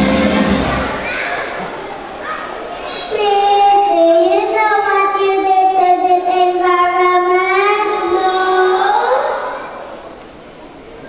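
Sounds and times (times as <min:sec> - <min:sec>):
young children singing: 0:00.0 - 0:10.2.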